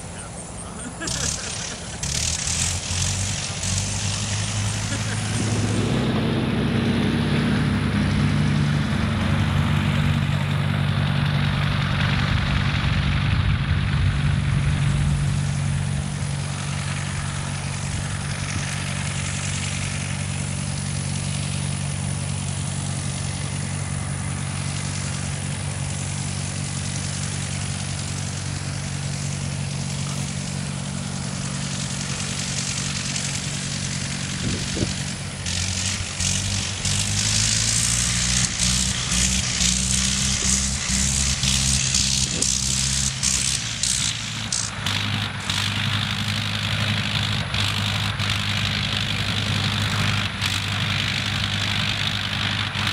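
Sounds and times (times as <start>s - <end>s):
vehicle engine running steadily: 0.0s - 52.9s.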